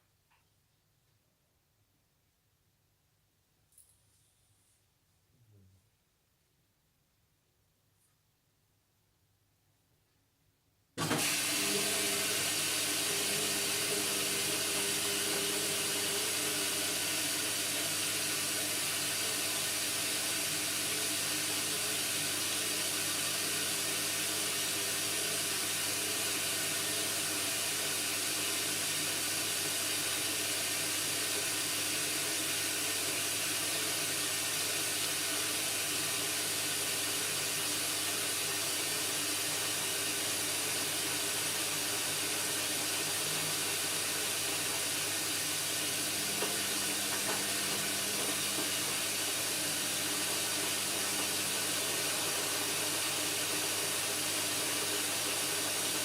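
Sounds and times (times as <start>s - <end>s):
washing machine running: 11.0s - 56.0s.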